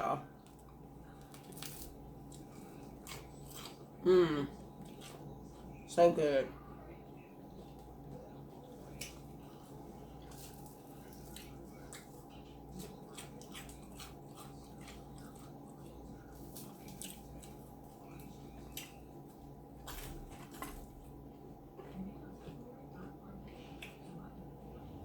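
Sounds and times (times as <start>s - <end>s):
steady low hum: 0.0s - 25.0s
chewing crusty bread: 0.2s - 5.9s, 7.0s - 25.0s.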